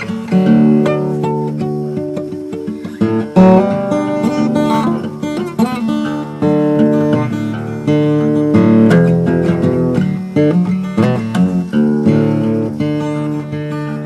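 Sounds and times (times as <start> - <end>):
acoustic guitar blues: 0.0 - 14.0.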